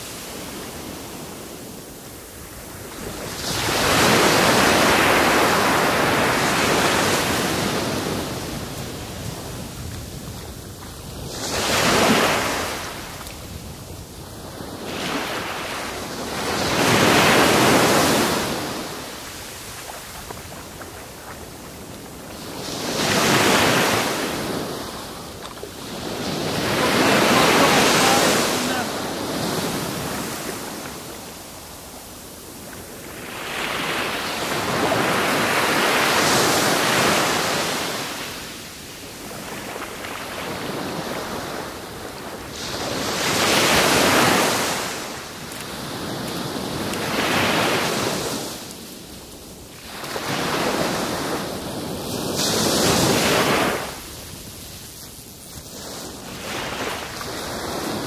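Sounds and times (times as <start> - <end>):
surf washing up sandy beach: 0.0 - 58.0.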